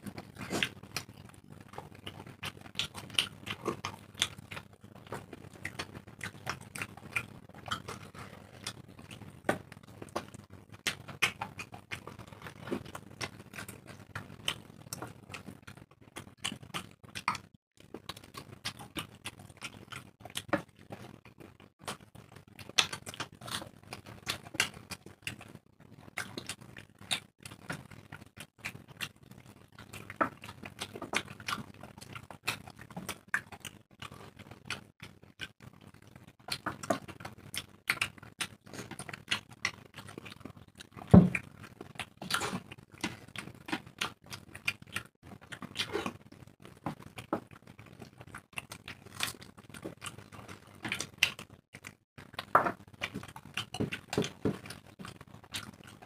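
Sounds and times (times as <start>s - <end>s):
wet chewing and lip smacks: 0.1s - 56.0s.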